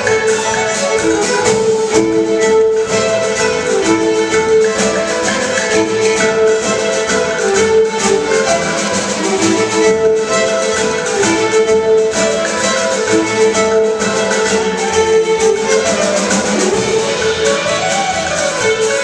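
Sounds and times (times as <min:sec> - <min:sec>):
fiddle tune on violin: 0:00.0 - 0:19.0
orchestra strings accompanying: 0:00.0 - 0:19.0.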